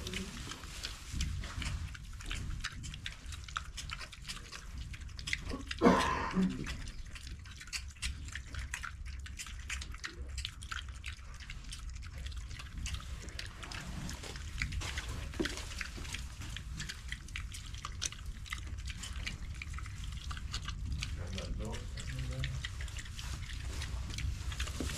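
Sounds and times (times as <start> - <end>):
low steady rumble: 0.0 - 24.9
piglets eating: 0.0 - 24.9.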